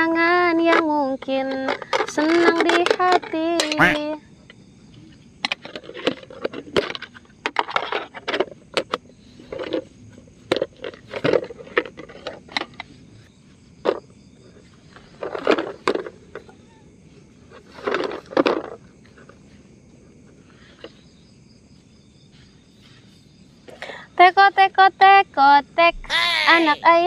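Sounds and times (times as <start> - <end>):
night insects chirring: 0.0 - 27.0.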